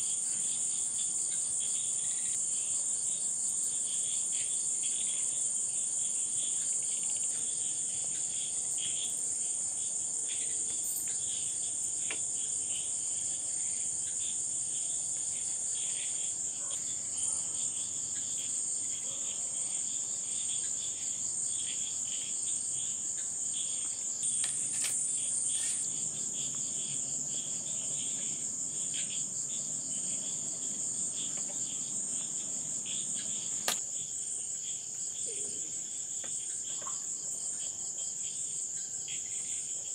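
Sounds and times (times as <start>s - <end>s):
crickets chirping: 0.0s - 39.9s
pulsing insect chirp: 0.0s - 39.9s.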